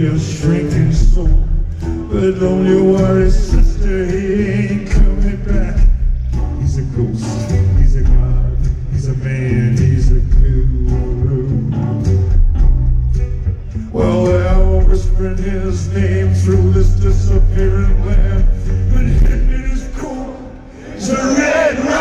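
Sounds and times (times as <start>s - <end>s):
man singing into a microphone: 0.0s - 12.0s, 13.9s - 21.4s
live band playing: 0.0s - 22.0s.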